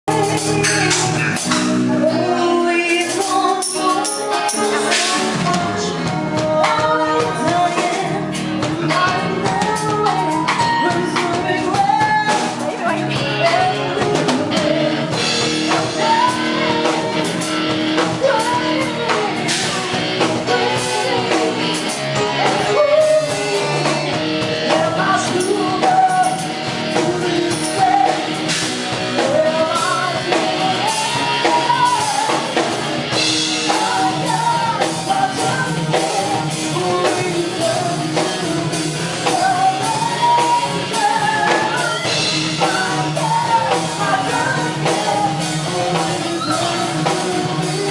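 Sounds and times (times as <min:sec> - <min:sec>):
guitar: 0:00.0 - 0:47.9
person singing: 0:00.0 - 0:47.9
drum kit beat: 0:00.1 - 0:47.9.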